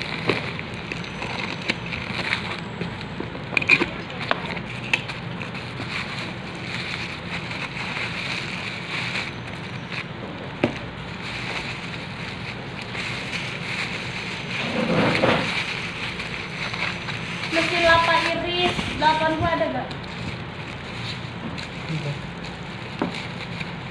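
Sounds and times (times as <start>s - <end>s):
bubble wrap rustling and crinkling: 0.0s - 23.9s.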